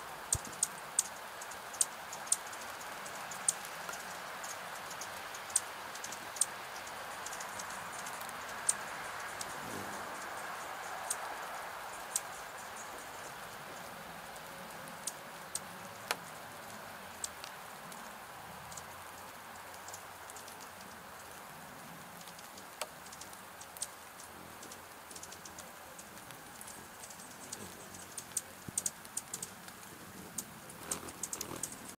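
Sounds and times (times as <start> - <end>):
steady rain hiss: 0.0 - 32.0
raindrops ticking on plastic: 0.2 - 32.0.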